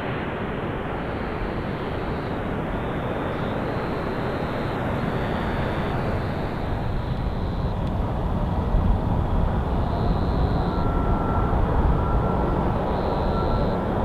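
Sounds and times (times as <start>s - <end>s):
high jet whines: 0.0s - 14.0s
jet engine rumble: 0.0s - 14.0s.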